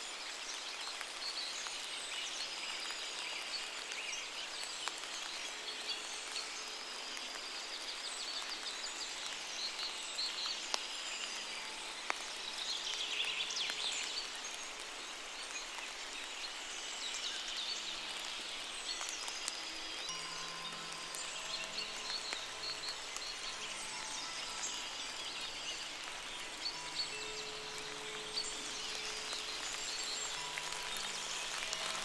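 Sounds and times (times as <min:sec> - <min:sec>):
rain falling through foliage: 0:00.0 - 0:32.0
sharp water drips: 0:00.0 - 0:32.0
birds chirping: 0:04.5 - 0:32.0.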